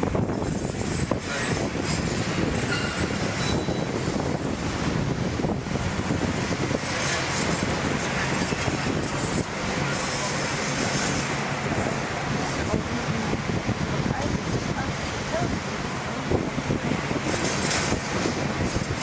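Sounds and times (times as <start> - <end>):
excavator running: 0.0 - 19.0.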